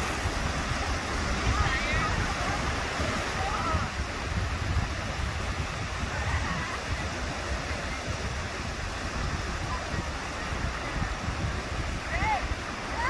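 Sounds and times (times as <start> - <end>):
ocean surf rushing: 0.0 - 13.0
wind rumbling on microphone: 0.0 - 13.0.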